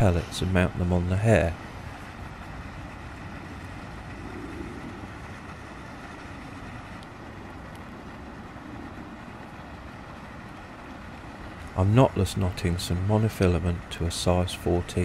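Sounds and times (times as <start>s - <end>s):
outdoor background rumble with hiss: 0.0s - 15.0s.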